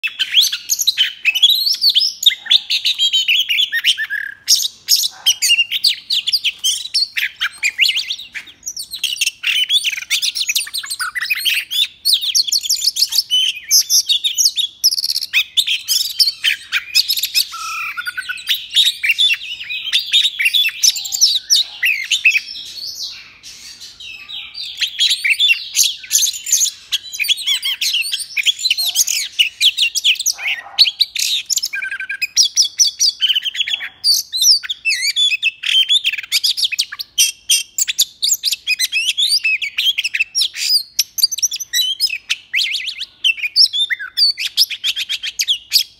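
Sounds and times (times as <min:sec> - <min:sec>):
songbird whistles and trills: 0:00.0 - 0:45.9.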